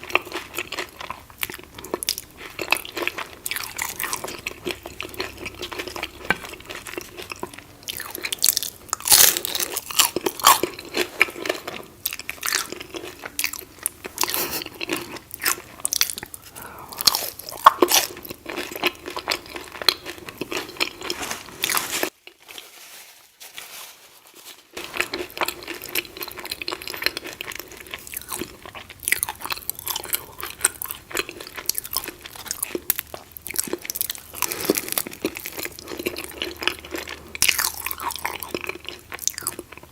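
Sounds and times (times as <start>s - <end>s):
crunching and chewing taco shells: 0.0s - 22.7s, 24.7s - 39.9s.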